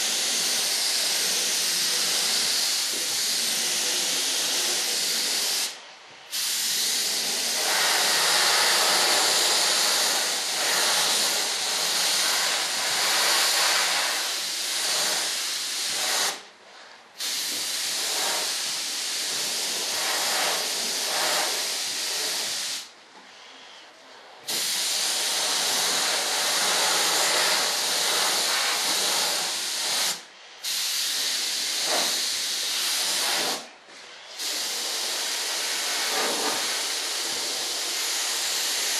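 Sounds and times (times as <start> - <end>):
paint sprayer hissing: 0.0 - 16.5, 17.2 - 22.9, 24.4 - 38.9.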